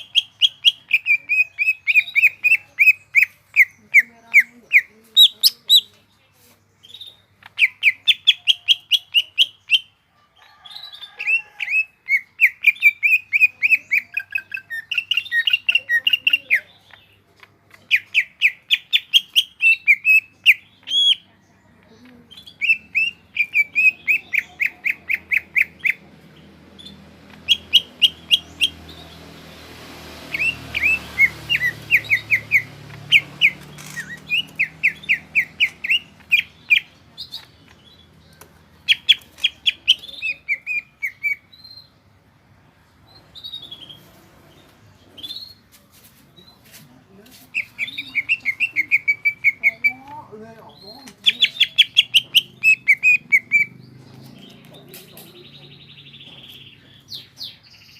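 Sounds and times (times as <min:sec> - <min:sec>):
bird singing chattering notes: 0:00.0 - 0:10.0, 0:10.9 - 0:29.4, 0:30.0 - 0:42.1, 0:47.5 - 0:57.9.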